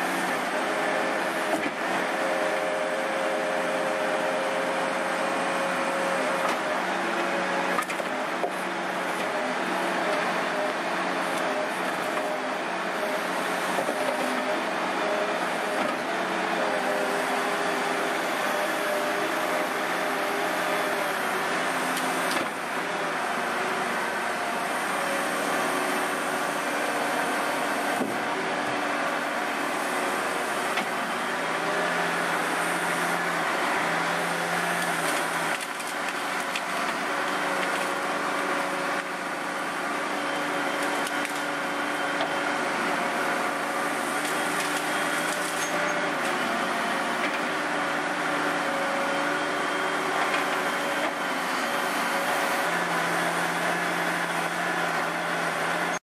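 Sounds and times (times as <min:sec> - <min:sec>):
diesel engine and hydraulics: 0:00.0 - 0:56.0.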